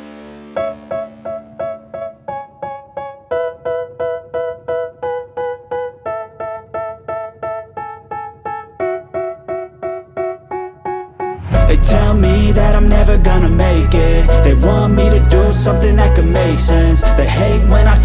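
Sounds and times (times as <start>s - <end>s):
electric piano repeated notes: 0.0s - 18.0s.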